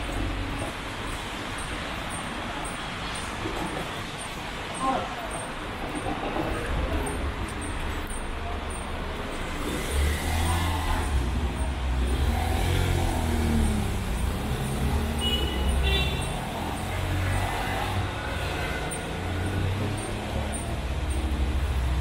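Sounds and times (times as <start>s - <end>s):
tyres on wet road: 0.0s - 22.0s.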